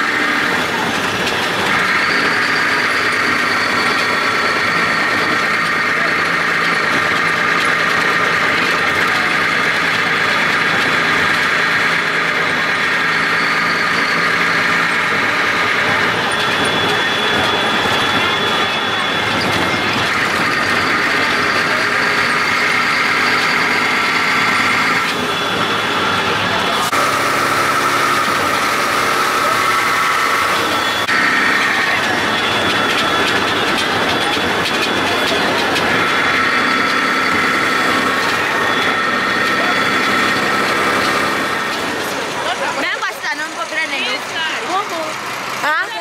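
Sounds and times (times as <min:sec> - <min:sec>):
bus engine running: 0:00.0 - 0:46.0
road noise: 0:00.0 - 0:46.0.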